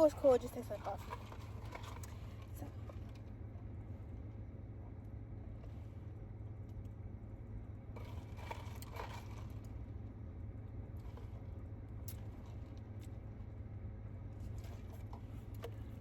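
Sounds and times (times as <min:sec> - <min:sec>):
car cabin engine hum: 0:00.0 - 0:16.0.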